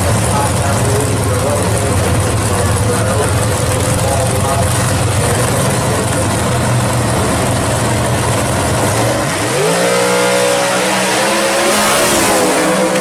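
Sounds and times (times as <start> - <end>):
drag car engines idling: 0.0 - 11.8
car engine revving high: 0.0 - 13.0.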